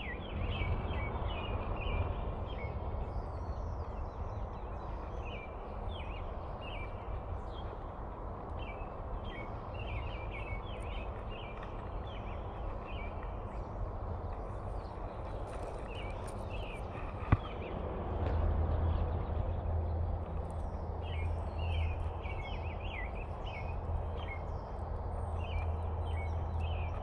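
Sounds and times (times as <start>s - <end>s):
birds chirping: 0.0s - 27.0s
low background rumble: 0.0s - 27.0s.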